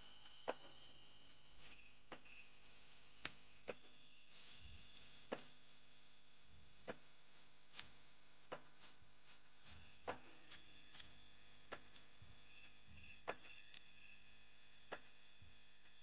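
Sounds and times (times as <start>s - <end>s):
night insects chirring: 0.0s - 7.4s, 9.2s - 16.0s.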